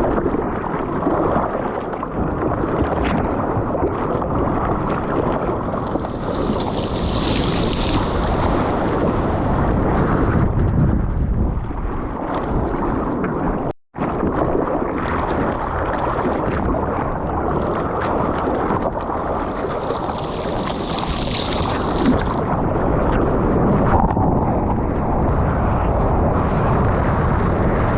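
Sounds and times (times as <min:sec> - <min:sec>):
rushing water: 0:00.0 - 0:10.1, 0:11.6 - 0:27.9
wind buffeting microphone: 0:00.0 - 0:27.9.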